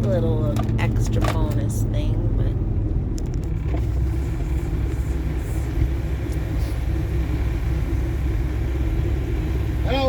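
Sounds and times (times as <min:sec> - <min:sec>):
truck engine rumble in cab: 0:00.0 - 0:10.0.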